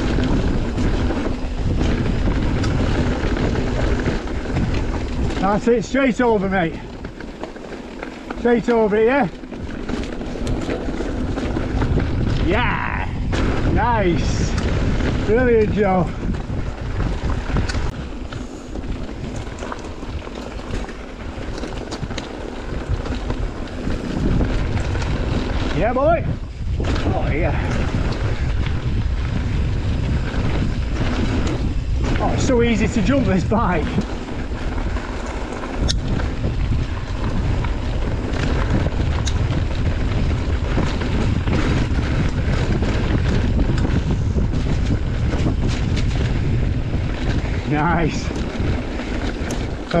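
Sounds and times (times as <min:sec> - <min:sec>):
bike clicks and rattles: 0:00.0 - 0:50.0
bike tyre noise: 0:00.0 - 0:50.0
wind rushing over microphone: 0:00.0 - 0:50.0.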